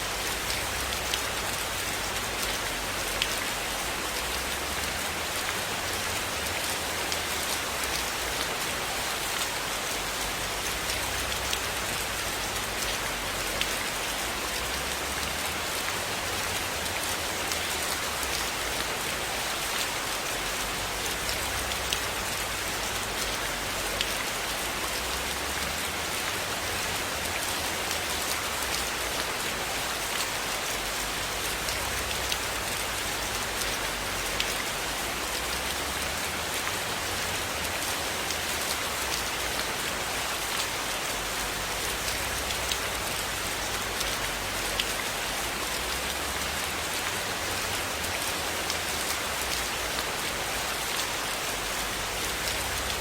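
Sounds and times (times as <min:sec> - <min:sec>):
rain on a roof: 0:00.0 - 0:53.0.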